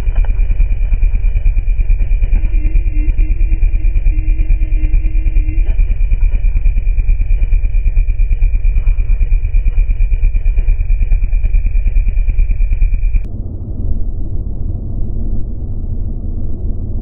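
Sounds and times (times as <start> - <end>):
motorcycle engine rumble: 0.0 - 14.3
steady high whine: 0.0 - 17.0.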